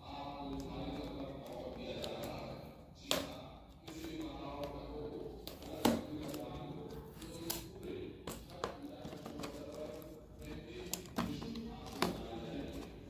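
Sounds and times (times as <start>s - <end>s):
person talking: 0.0s - 13.0s.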